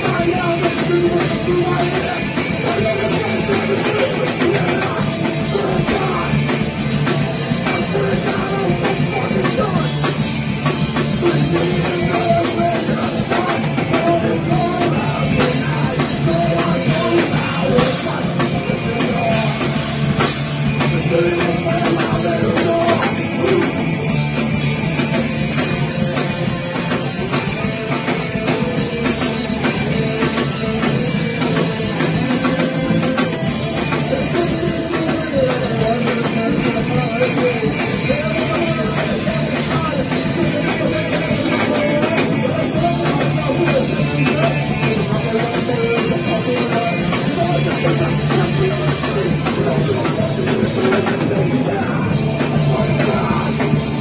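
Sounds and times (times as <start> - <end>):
person singing: 0.0 - 24.1, 26.9 - 54.0
rock band playing: 0.0 - 54.0.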